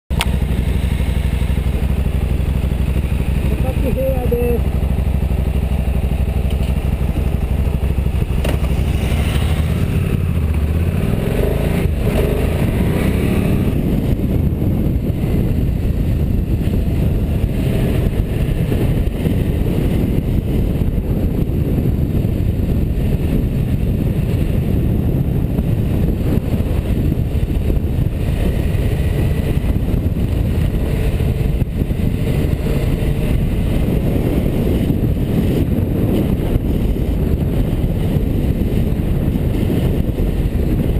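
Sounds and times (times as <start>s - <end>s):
motorcycle engine running: 0.1s - 40.9s
wind rushing on microphone: 0.1s - 40.9s.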